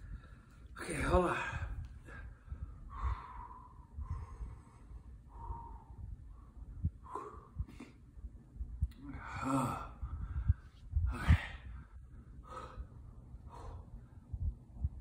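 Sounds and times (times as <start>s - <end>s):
man breathing hard: 0.0s - 8.2s, 9.0s - 14.5s.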